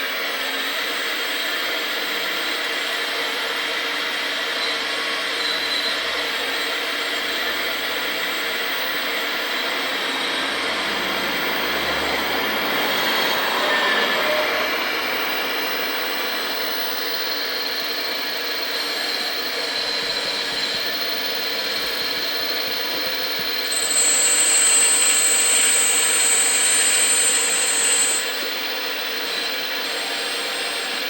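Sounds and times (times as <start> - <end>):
steady mechanical noise: 0.0 - 31.0
high-pitched whine: 0.8 - 31.0.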